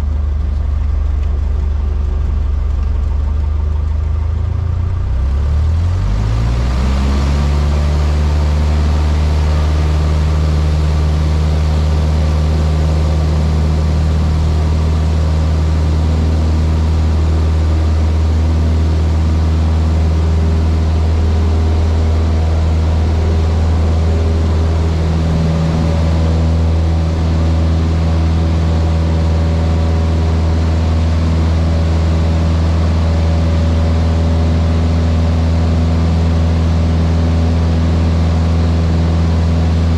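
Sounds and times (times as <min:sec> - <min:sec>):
small plane engine and propeller: 0:00.0 - 0:39.9.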